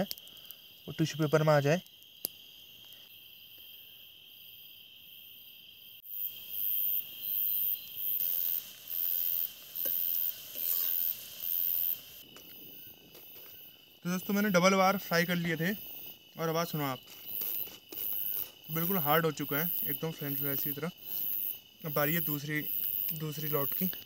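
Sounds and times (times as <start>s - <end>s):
crickets trilling: 0.0s - 24.0s
insect high buzzing call: 0.0s - 24.0s.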